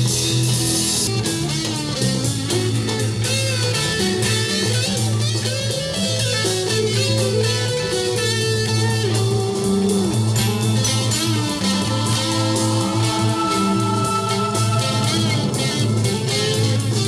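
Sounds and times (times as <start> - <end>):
psychedelic rock music from a record: 0.0 - 17.0.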